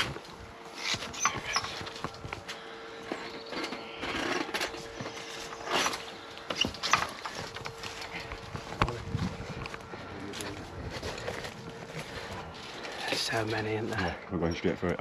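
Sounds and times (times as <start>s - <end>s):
footsteps on uneven ground: 0.0s - 14.1s
faint steady hum: 0.0s - 15.0s.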